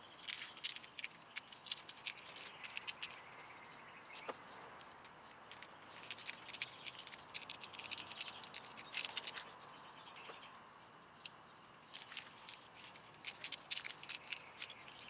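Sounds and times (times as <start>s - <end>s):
light crackles and clicks: 0.0s - 15.0s.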